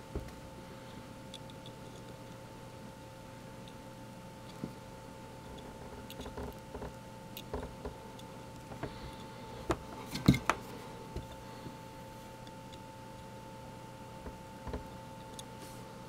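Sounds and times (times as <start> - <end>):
faint steady electrical tone: 0.0 - 16.0.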